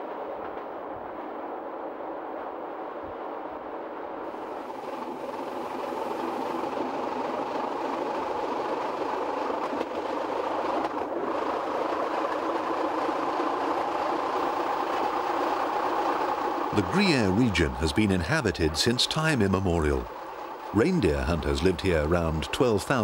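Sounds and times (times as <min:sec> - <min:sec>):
train wheels rumbling on rails: 0:04.2 - 0:23.0.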